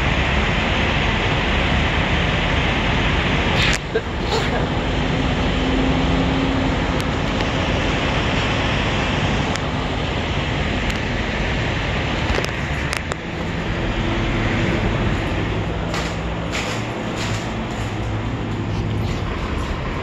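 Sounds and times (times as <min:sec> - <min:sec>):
diesel truck engines rumbling: 0:00.0 - 0:20.0.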